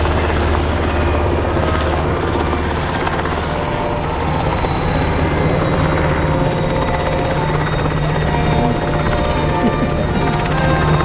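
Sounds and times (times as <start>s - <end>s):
helicopter rotor beat: 0.0s - 11.0s
turbine engine whine: 0.0s - 11.0s.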